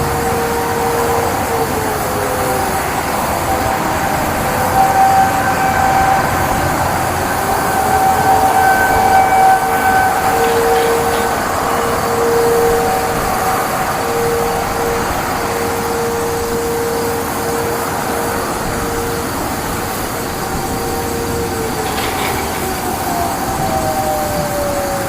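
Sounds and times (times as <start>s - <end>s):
two-tone warning siren: 0.0s - 25.0s.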